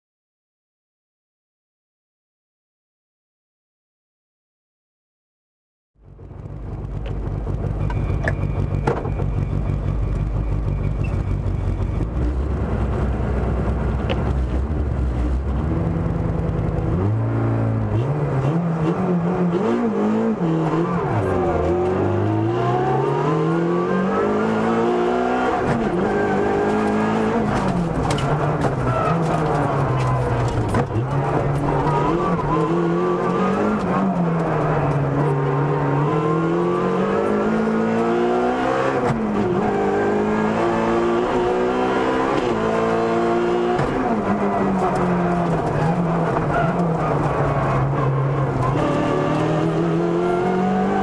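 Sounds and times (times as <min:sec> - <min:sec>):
car engine idling and revving: 0:06.0 - 0:51.0.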